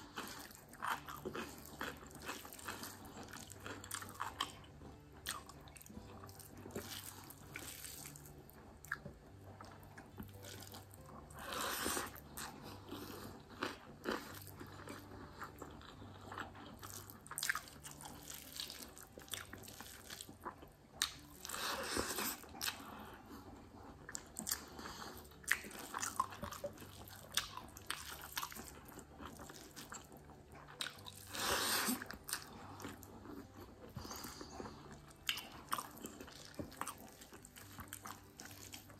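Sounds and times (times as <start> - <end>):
crunchy chewing: 0.0 - 38.9
wet chewing with smacks: 0.0 - 38.9.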